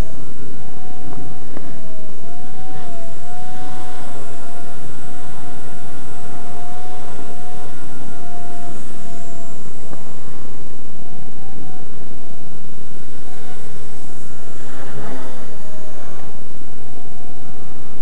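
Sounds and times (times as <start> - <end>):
low microphone noise: 0.0 - 18.0
rc helicopter motor whine: 0.0 - 18.0.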